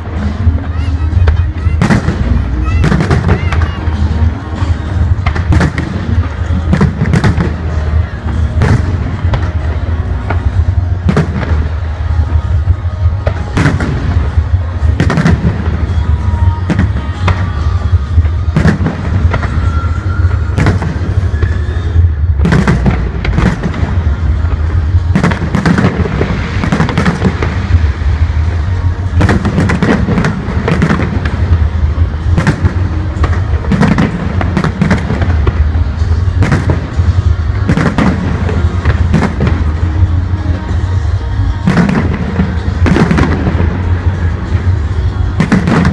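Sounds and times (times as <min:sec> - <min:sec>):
fireworks bursting bangs: 0:00.0 - 0:45.9
steady low rumble: 0:00.0 - 0:45.9.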